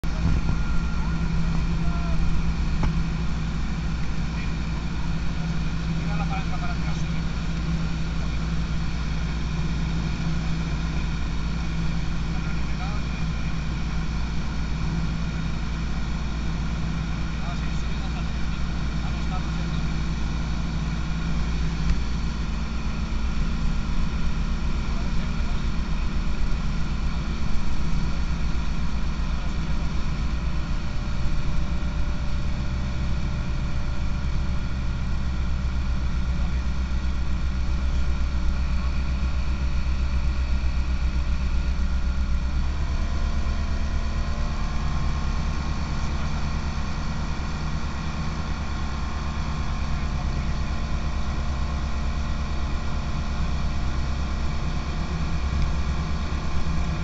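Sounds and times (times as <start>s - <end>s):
light aircraft engine humming: 0.0s - 57.0s.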